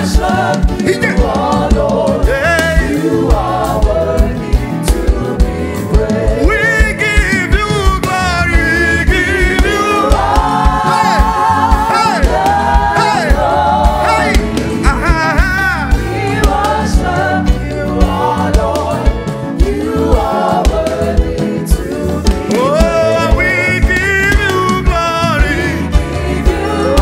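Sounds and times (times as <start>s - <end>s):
drum kit groove: 0.0s - 27.0s
keyboards: 0.0s - 27.0s
voices singing in harmony: 0.0s - 27.0s.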